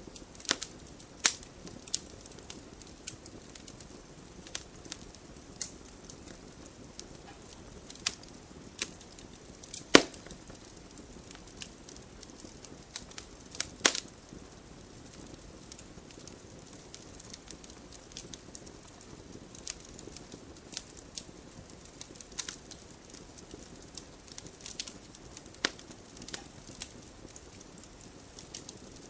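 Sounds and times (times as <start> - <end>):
fire crackling and popping: 0.0 - 29.0
fire hissing: 0.0 - 29.0.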